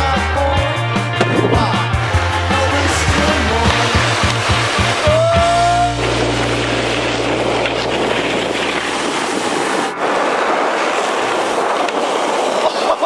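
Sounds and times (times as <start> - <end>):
wind on microphone: 1.1 - 13.0
snowboards scraping over snow: 1.2 - 13.0.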